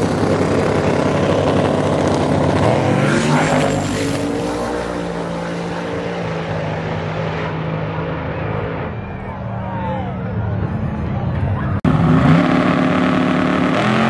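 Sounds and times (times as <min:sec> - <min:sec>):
truck engines at full throttle: 0:00.0 - 0:14.0.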